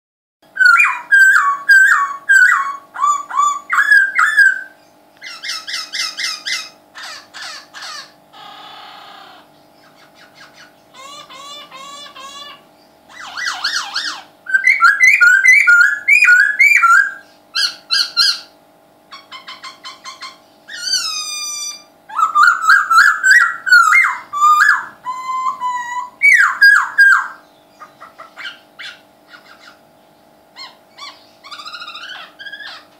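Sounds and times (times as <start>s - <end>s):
faint steady hum: 0.4s - 32.9s
songbird singing: 0.4s - 32.9s.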